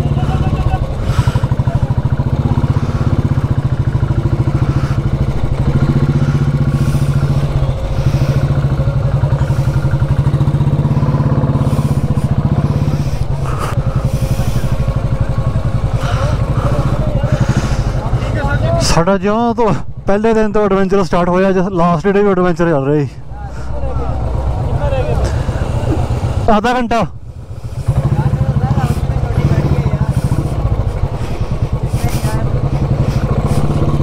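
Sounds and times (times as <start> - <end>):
motorcycle engine running: 0.0 - 22.4, 23.2 - 34.0.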